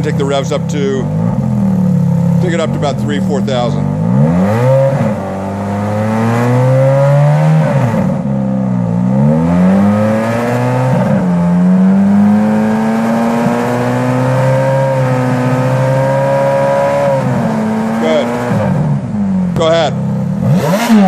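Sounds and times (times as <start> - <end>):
sports car exhaust revving: 0.0 - 21.0.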